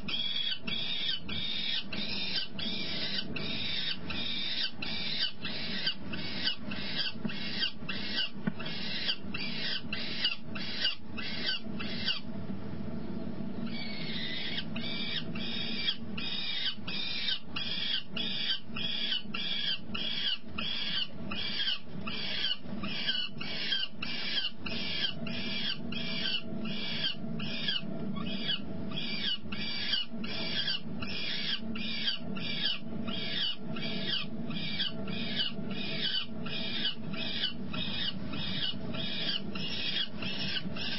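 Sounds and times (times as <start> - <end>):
steady low hum: 0.0 - 40.9
falcon high-pitched cries: 0.1 - 12.2, 13.7 - 40.9.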